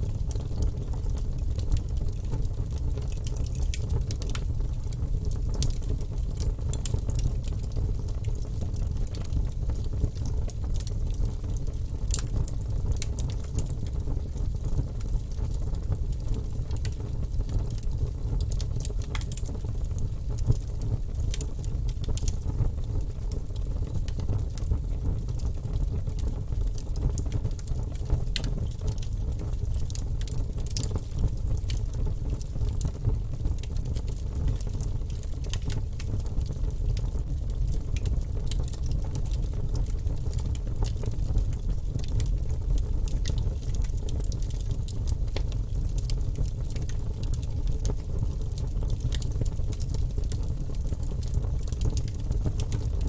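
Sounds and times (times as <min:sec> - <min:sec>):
fire crackles and pops: 0:00.0 - 0:53.0
low rumble of flames: 0:00.0 - 0:53.0.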